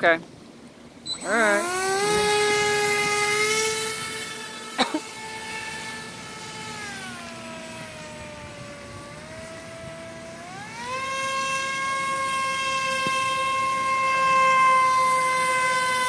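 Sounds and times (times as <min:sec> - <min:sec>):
model airboat engine buzzing: 0:00.0 - 0:16.0.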